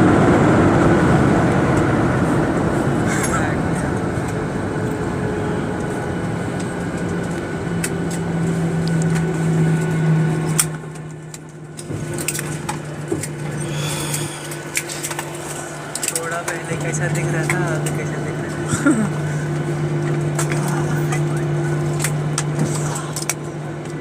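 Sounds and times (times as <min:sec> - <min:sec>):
loud rushing cabin noise: 0:00.0 - 0:24.0
steady low engine hum: 0:00.0 - 0:24.0.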